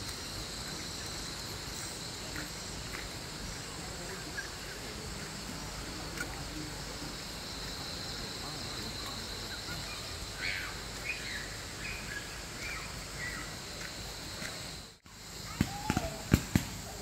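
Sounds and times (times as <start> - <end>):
night insect chorus: 0.0 - 17.0.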